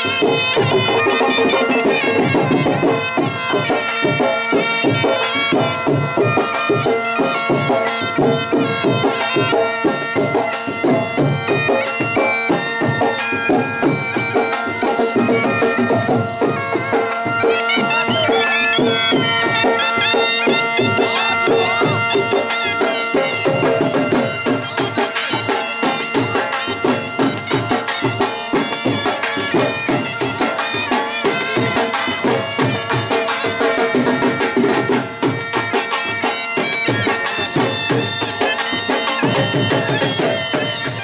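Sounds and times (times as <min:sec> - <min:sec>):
quick drum beats: 0:00.0 - 0:41.0
reedy wind instrument melody: 0:00.0 - 0:41.0.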